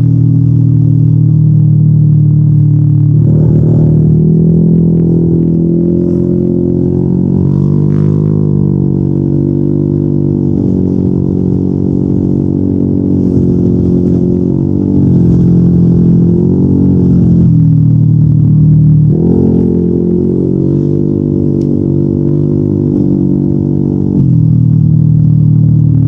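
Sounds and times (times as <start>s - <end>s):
scooter engine droning: 0.0s - 26.0s.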